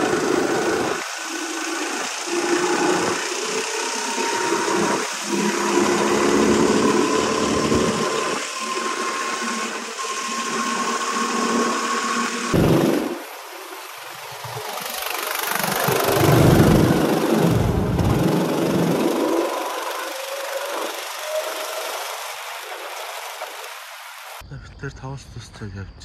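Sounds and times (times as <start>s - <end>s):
thin rising whine: 0.0s - 13.7s, 15.7s - 24.4s
go-kart motor running: 0.0s - 23.8s.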